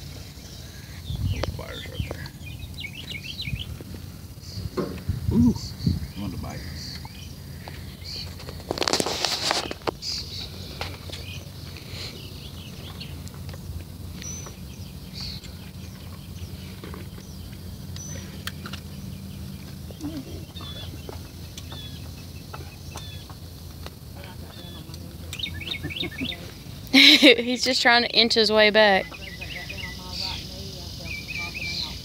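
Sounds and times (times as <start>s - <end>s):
birds chirping: 0.0s - 32.0s
steady low hum: 0.0s - 32.0s.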